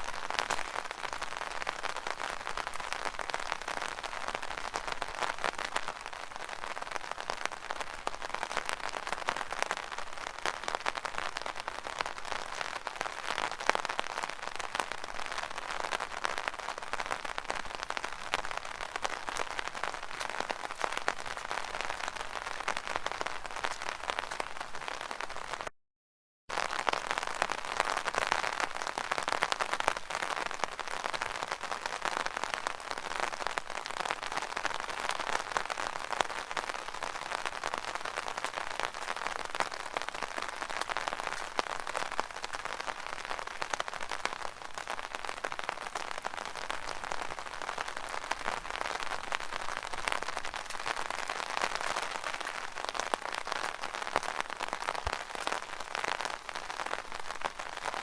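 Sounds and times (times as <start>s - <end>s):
rain on an umbrella: 0.0s - 25.7s, 26.5s - 58.0s.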